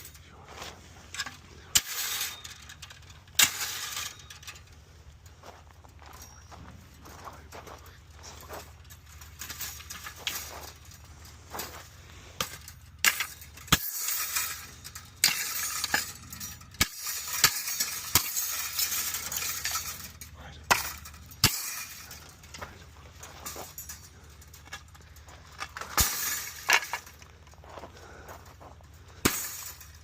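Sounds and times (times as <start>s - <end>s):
hard objects clinking and clattering: 0.0s - 30.0s.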